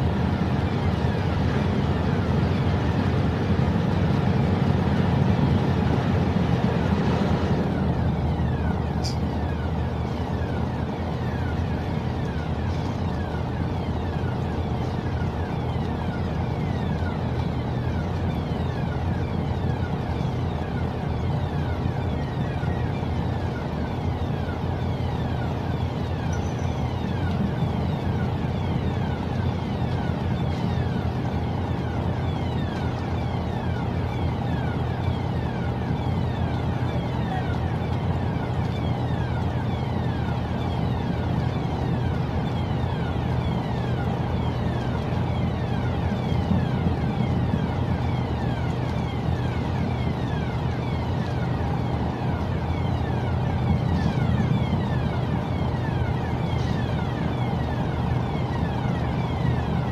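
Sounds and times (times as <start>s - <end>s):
ship diesel engines droning: 0.0s - 59.9s.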